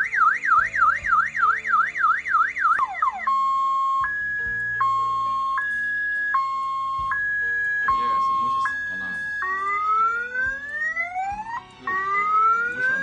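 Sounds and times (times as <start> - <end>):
car alarm chirps: 0.0 - 13.0
car alarm siren wailing: 0.0 - 13.0
two-tone hi-lo siren: 0.0 - 13.0.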